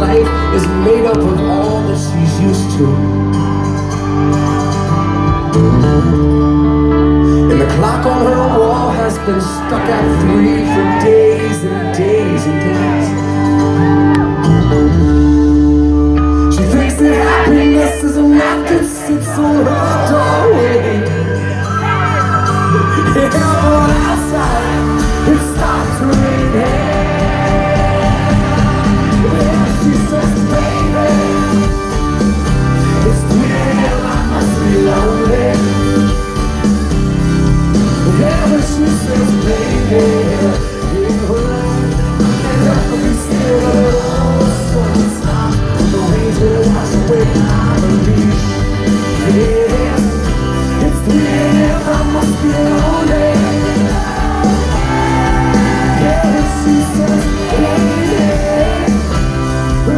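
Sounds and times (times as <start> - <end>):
man singing: 0.0 - 3.3, 7.2 - 14.7, 16.2 - 36.4, 37.8 - 59.9
acoustic guitar: 0.0 - 59.9
electric bass: 0.0 - 59.9
live rock band: 0.0 - 59.9.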